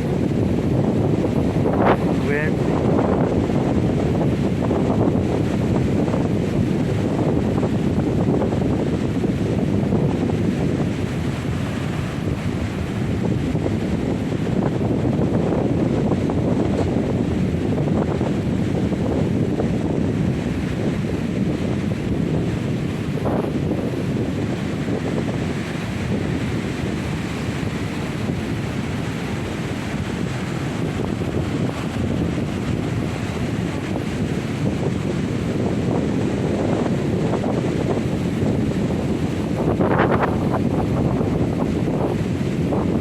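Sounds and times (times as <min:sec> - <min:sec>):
surf breaking on beach: 0:00.0 - 0:43.0
wind buffeting microphone: 0:00.0 - 0:43.0.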